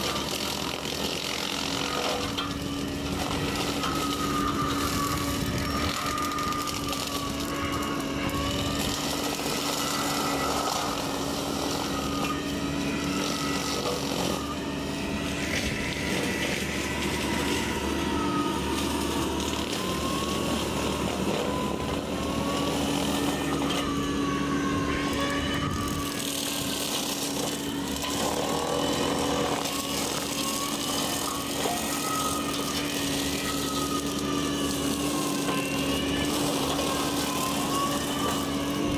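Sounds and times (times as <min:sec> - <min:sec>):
brush cutter whining: 0:00.0 - 0:38.9
diesel engine running under load: 0:00.0 - 0:38.9.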